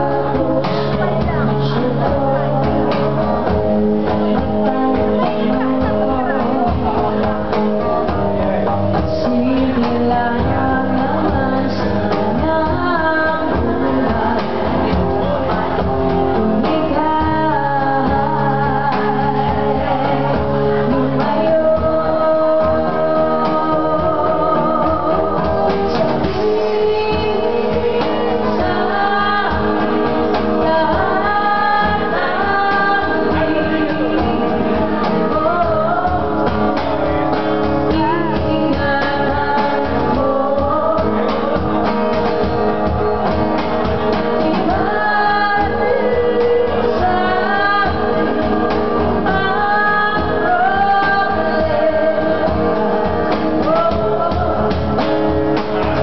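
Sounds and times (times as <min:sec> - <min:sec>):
acoustic guitar: 0:00.0 - 0:56.0
hand drum beat: 0:00.0 - 0:56.0
person singing: 0:00.0 - 0:56.0.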